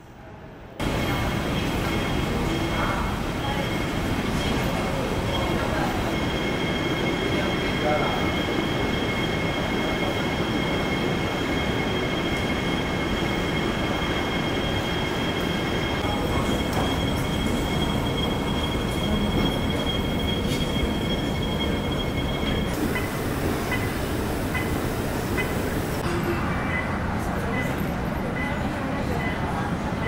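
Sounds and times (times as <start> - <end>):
high-pitched whines: 0.8 - 26.9.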